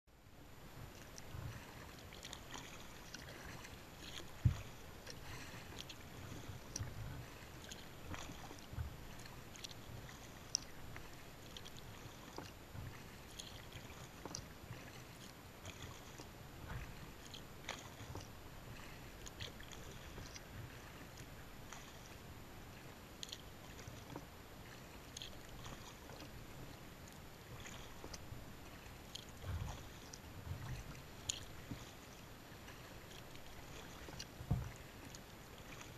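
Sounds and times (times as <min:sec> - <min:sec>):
soft low rumble: 0:00.1 - 0:35.9
water lapping against kayak hull: 0:00.3 - 0:35.9.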